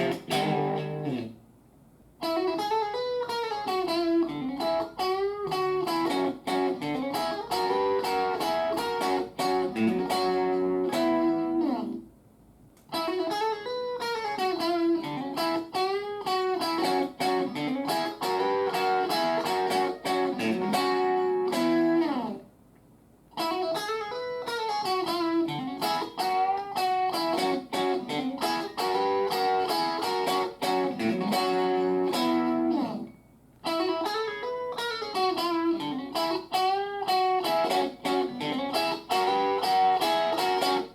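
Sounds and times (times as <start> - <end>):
electric guitar lead line: 0.0 - 1.4, 2.2 - 12.0, 12.9 - 22.4, 23.4 - 40.9.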